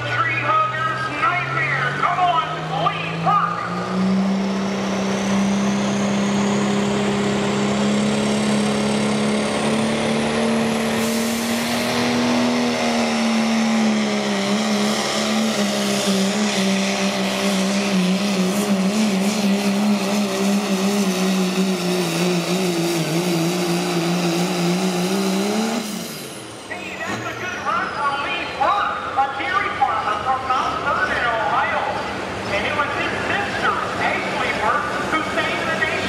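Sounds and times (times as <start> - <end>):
diesel truck engine at full throttle: 0.0 - 36.0.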